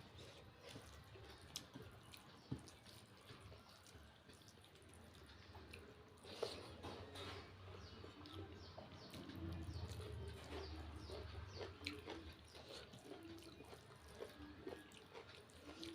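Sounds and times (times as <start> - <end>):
soft chewing: 0.0 - 15.9.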